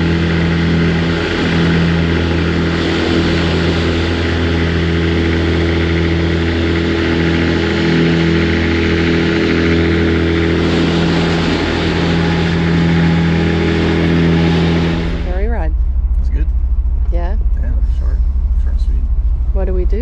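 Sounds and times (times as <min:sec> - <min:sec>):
road and wind noise: 0:00.0 - 0:20.0
vehicle engine running steadily: 0:00.0 - 0:20.0.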